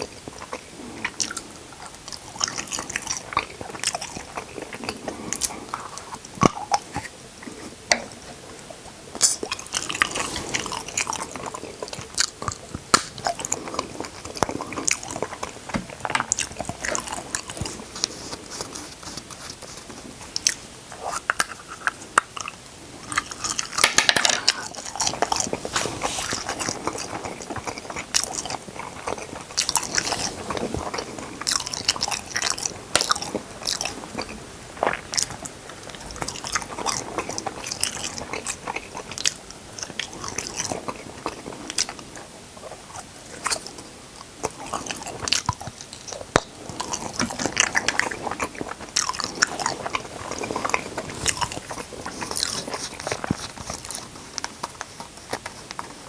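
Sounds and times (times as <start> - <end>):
chewing with crunches: 0.0 - 56.0.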